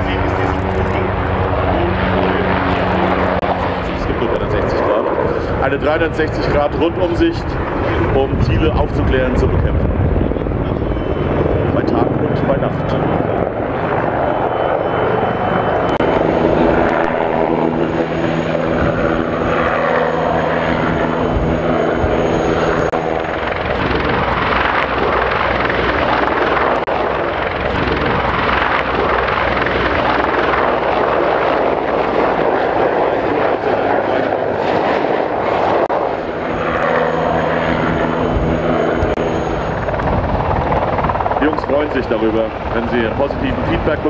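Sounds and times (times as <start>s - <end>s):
helicopters flying low: 0.0s - 44.0s.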